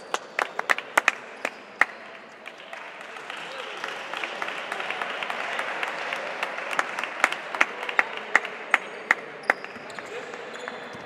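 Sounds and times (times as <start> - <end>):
crowd applause: 0.0 - 9.8.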